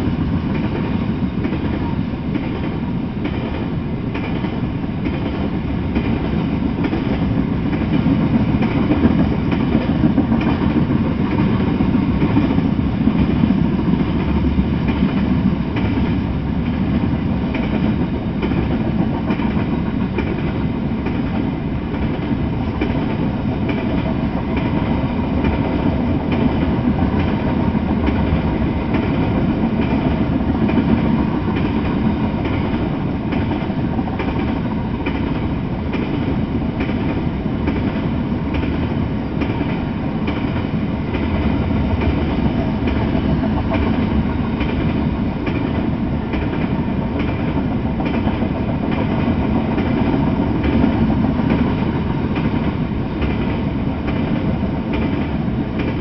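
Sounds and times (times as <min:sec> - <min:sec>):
freight train rolling past: 0:00.0 - 0:56.0
steel wheels on rails: 0:00.0 - 0:56.0.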